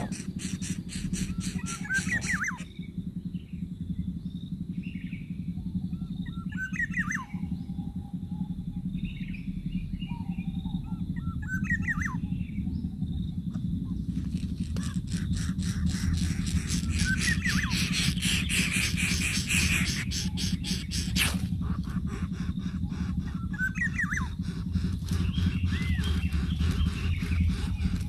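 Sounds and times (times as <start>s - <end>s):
bird whistling song: 0.0s - 2.9s, 4.8s - 12.9s, 14.6s - 28.0s
rapid pulsing buzz: 0.0s - 28.0s
steady low rumble: 0.0s - 28.0s.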